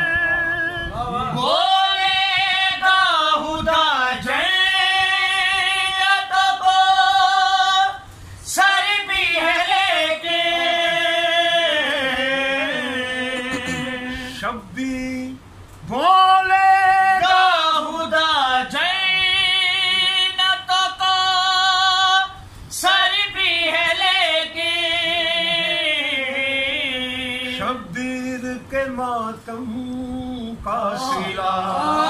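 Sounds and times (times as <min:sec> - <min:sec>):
man singing unaccompanied: 0:00.0 - 0:32.0.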